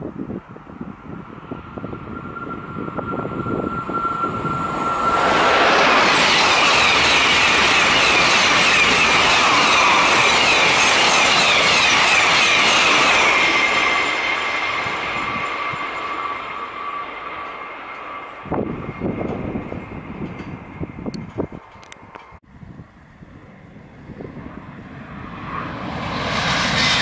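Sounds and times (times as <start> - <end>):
wind buffeting microphone: 0.0 - 13.4, 18.4 - 27.0
high-speed train passing: 0.0 - 27.0.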